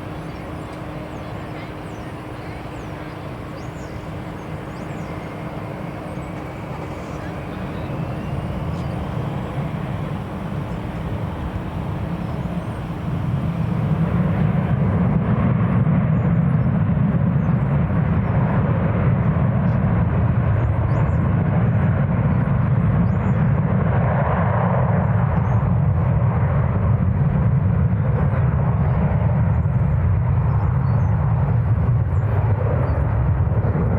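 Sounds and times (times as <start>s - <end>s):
jet engines rumbling: 0.0s - 33.9s.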